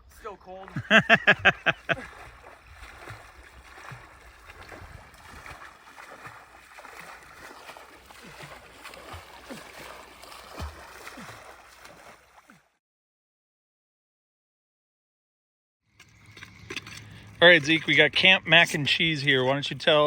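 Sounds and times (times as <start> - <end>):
water lapping and splashing: 0.3 - 12.8, 16.0 - 20.0.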